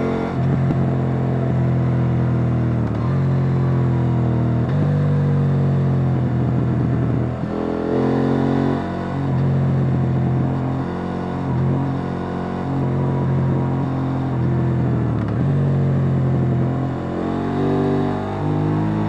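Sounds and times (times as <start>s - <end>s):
motorcycle engine under throttle: 0.0s - 19.0s.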